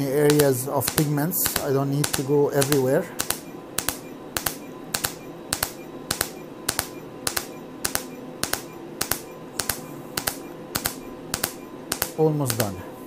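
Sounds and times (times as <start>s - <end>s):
faint steady hum: 0.0s - 13.0s
laser pulsing sharp snaps: 0.2s - 12.8s.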